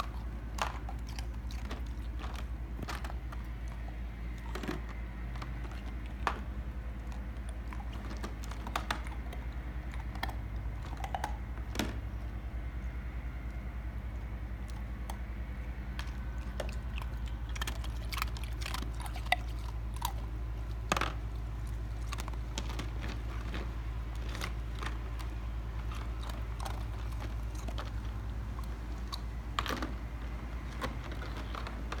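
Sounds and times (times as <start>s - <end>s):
dogs crunching ice cubes: 0.0s - 32.0s
steady low hum: 0.0s - 32.0s.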